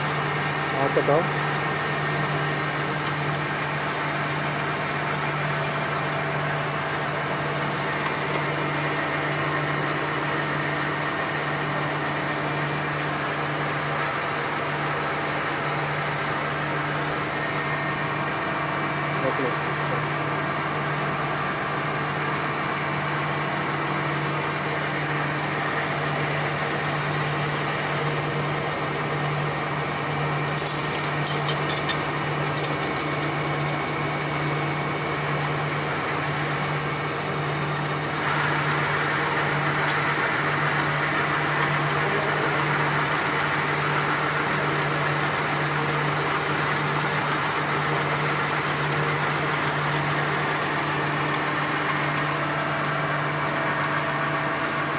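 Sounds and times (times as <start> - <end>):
machinery humming: 0.0 - 54.9.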